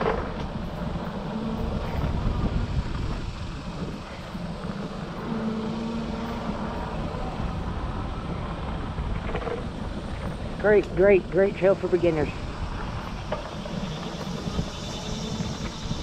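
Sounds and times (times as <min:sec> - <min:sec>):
faint steady drone: 0:00.0 - 0:16.0
wind buffeting microphone: 0:00.0 - 0:16.0.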